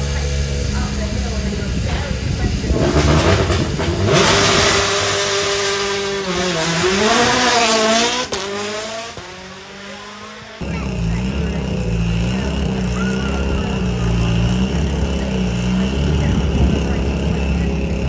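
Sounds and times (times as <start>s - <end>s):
car engine idling: 0.0s - 18.0s
rally car engine accelerating: 0.0s - 18.0s.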